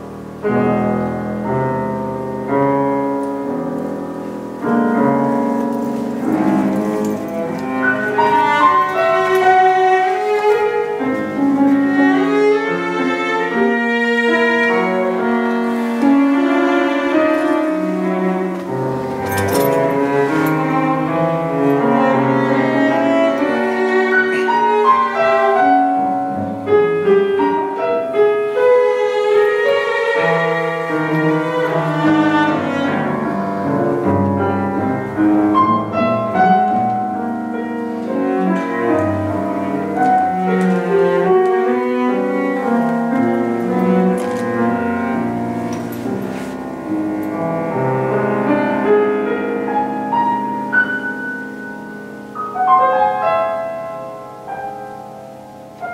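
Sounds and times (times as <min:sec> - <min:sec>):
cello: 0:00.0 - 0:55.9
grand piano: 0:00.0 - 0:55.9.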